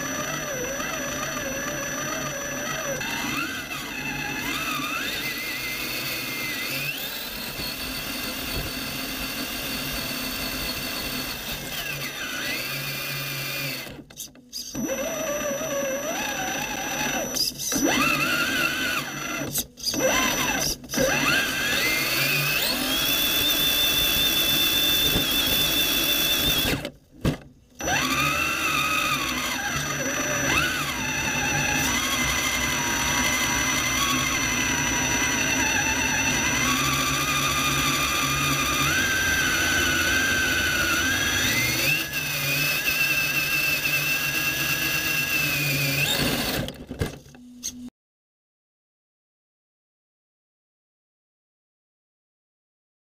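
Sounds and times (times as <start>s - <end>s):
toy car electric motor whining: 0.0s - 27.0s, 27.7s - 47.9s.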